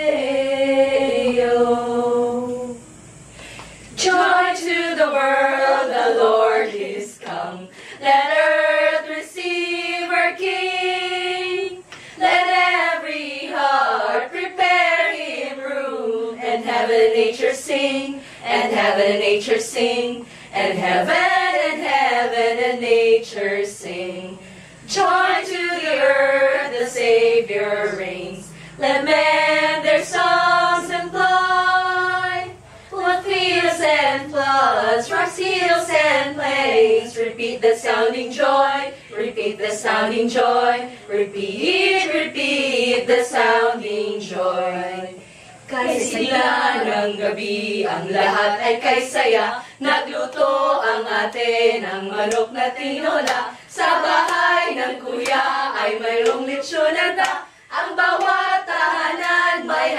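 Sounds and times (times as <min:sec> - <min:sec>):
women singing a carol: 0:00.0 - 0:59.9.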